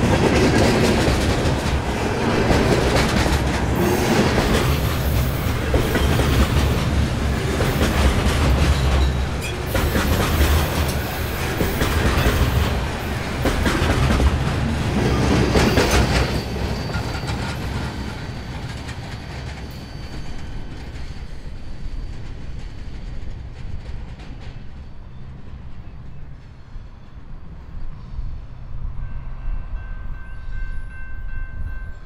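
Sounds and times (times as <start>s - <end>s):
freight train wheels clattering: 0.0s - 26.6s.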